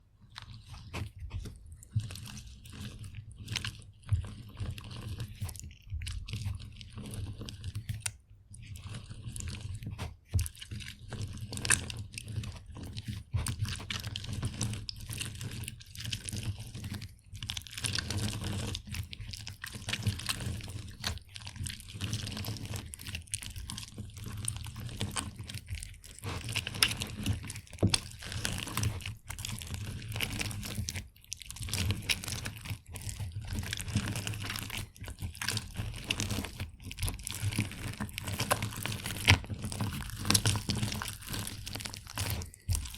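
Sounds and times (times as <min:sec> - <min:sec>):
orange crunching on a juicer: 0:00.0 - 0:42.9.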